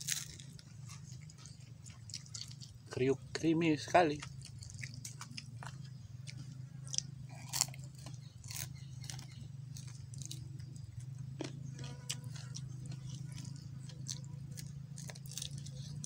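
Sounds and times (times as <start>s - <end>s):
crunching chicken feet: 0.0s - 3.0s, 3.7s - 16.0s
steady low hum: 0.0s - 16.0s.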